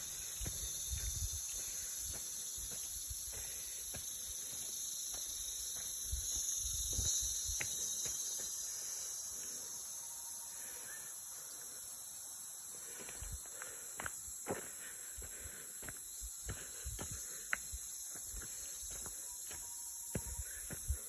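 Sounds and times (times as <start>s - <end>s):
footsteps on leafy dirt trail: 0.0s - 9.2s, 12.8s - 21.0s
high-pitched insect chorus: 0.0s - 21.0s.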